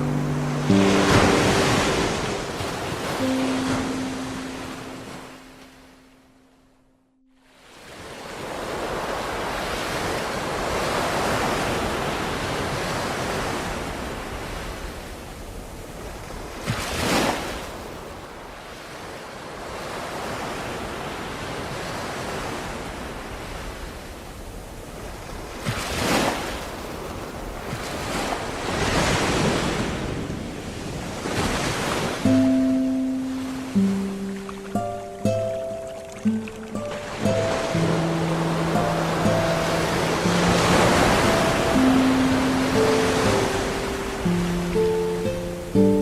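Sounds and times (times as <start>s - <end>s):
waves breaking with splashes: 0.0s - 6.2s, 7.4s - 46.0s
ocean waves washing: 0.0s - 46.0s.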